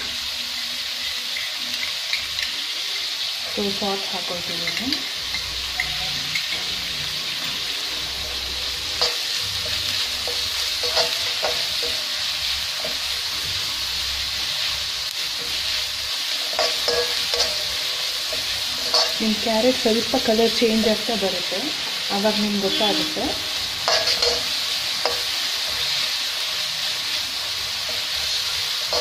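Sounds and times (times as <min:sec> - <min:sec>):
vegetables sizzling in a wok: 0:00.0 - 0:29.0.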